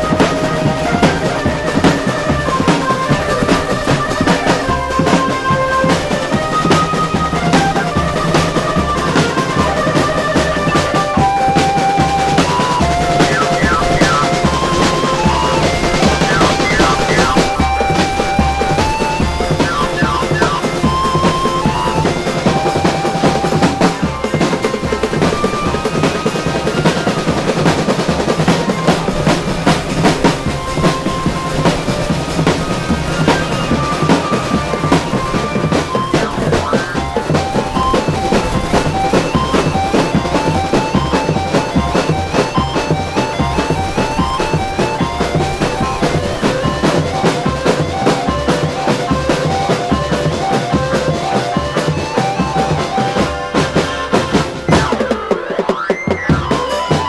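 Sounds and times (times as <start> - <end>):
marching drums playing: 0.0 - 57.0
pitched melody: 0.0 - 57.0.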